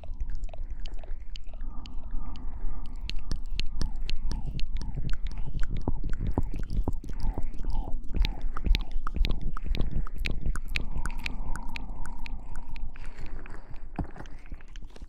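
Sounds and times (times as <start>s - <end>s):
wet crackles and squishy clicks: 0.0s - 15.0s.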